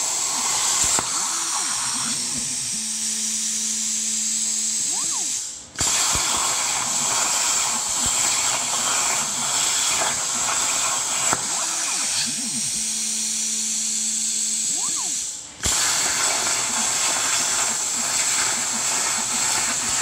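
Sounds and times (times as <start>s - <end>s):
plasma cutter torch hissing: 0.0s - 20.0s.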